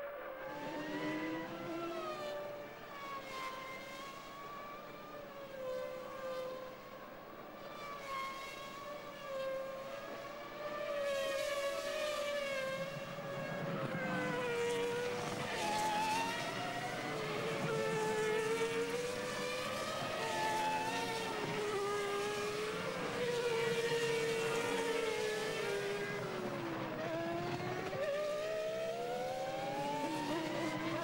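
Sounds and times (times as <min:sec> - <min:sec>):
racing car engines whining: 0:00.0 - 0:31.0.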